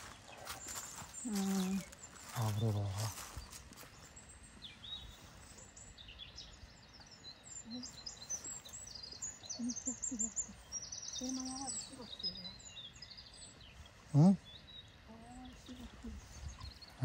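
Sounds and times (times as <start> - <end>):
songbirds chirping and whistling: 0.0 - 17.0.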